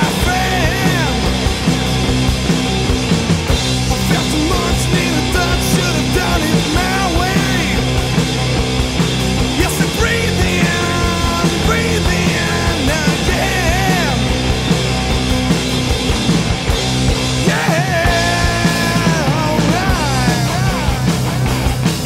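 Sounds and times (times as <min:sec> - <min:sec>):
stoner rock song: 0:00.0 - 0:22.0.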